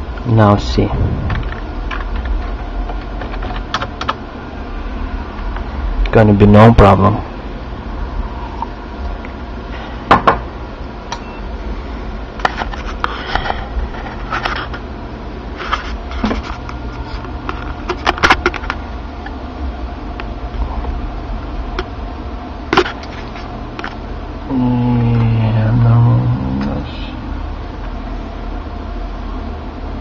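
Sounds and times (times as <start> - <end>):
computer fans humming: 0.0 - 30.0.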